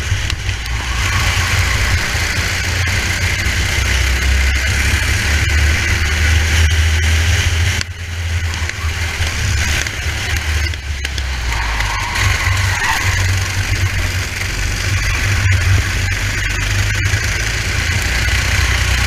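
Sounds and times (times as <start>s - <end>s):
rushing wind noise: 0.0s - 16.9s
racing kart engine running: 0.0s - 19.0s.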